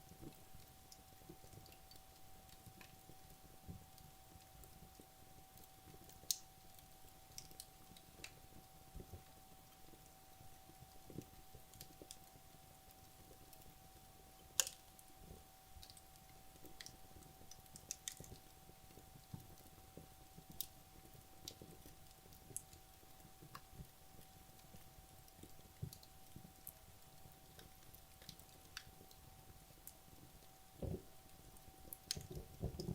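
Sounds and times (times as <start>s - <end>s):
logs crackling and popping in fire: 0.0s - 32.9s.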